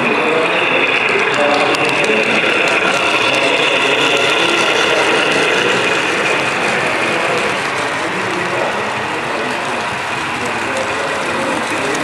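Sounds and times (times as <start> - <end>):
model train whirring: 0.0 - 12.0
rapid clicks of gears and wheels: 0.0 - 12.0.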